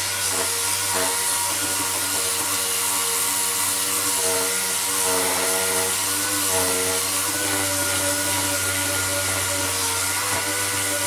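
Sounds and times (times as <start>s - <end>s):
power sander sanding filler: 0.0s - 11.0s.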